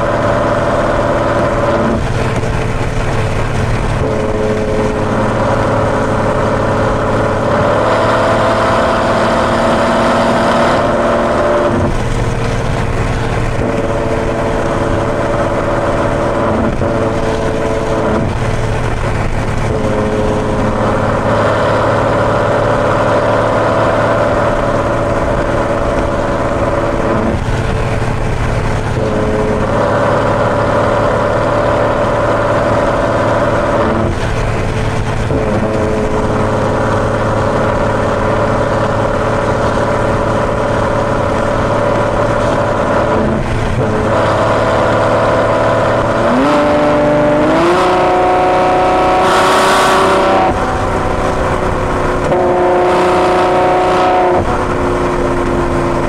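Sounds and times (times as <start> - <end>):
car engine cruising: 0.0 - 56.0.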